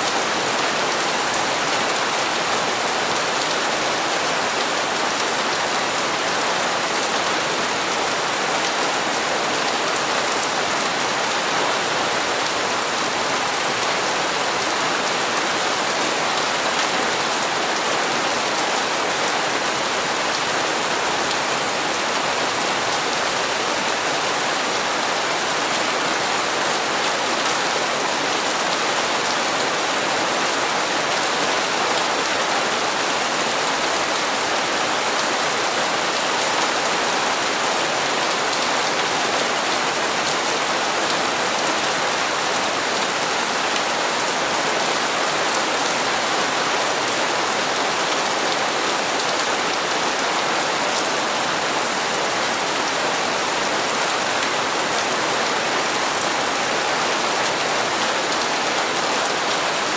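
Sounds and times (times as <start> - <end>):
steady rain on hard surfaces: 0.0 - 59.9.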